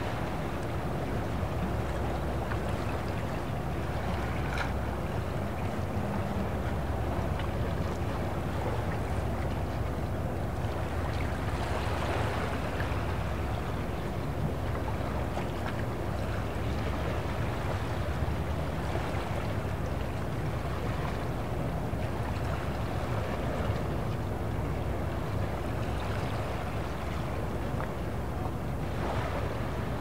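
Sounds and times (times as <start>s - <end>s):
boat engines rumbling: 0.0s - 30.0s
moving water: 0.0s - 30.0s.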